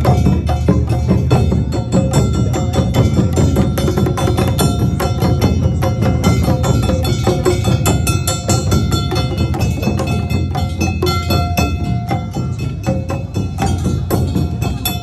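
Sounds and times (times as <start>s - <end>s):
drums and gongs beating: 0.0s - 15.0s.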